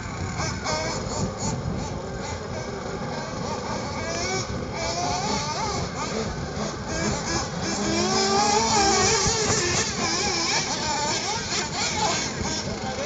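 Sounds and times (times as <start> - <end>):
rc car engines whining: 0.0 - 13.0.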